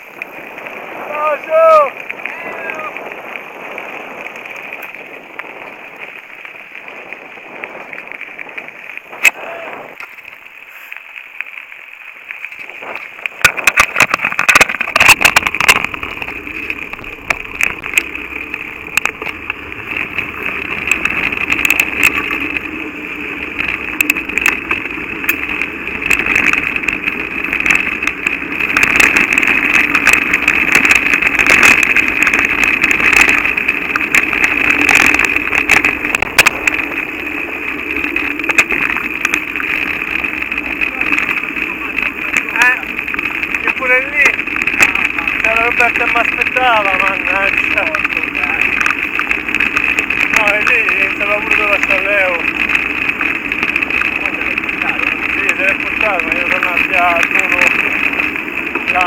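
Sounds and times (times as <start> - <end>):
bike rattling over bumps: 0.0 - 59.0
bike tyres on gravel: 0.0 - 59.0
wind noise on microphone: 0.0 - 59.0.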